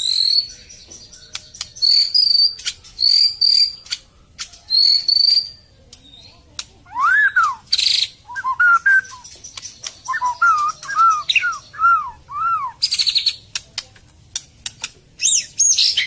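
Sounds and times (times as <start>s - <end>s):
bird whistling song: 0.0s - 6.3s, 6.9s - 13.5s, 15.2s - 16.0s.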